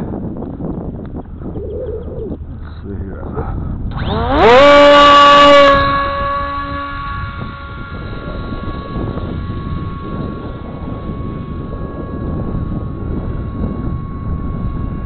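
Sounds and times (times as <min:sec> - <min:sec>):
electric motor and propeller whine: 0:00.0 - 0:15.0.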